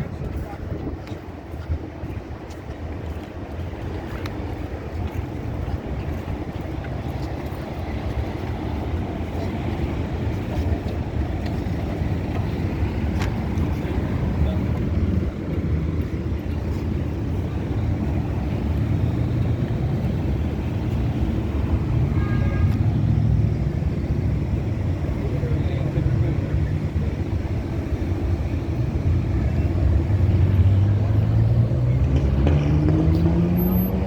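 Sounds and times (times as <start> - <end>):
rumble of passing cars: 0.0 - 34.0.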